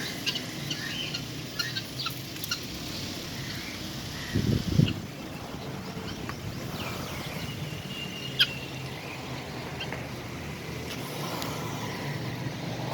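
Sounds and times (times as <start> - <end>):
turkey hens calling: 0.0 - 10.4.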